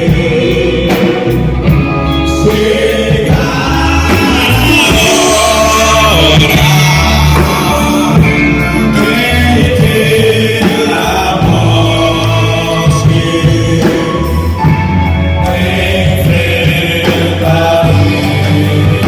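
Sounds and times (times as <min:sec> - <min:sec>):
bass line: 0:00.0 - 0:19.0
gospel band playing: 0:00.0 - 0:19.0
person singing: 0:00.0 - 0:19.0.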